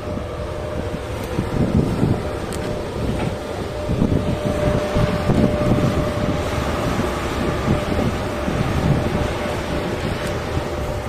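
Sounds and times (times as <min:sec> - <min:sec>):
locomotive whine: 0:00.0 - 0:11.0
wheels rumbling on rail: 0:00.0 - 0:11.0.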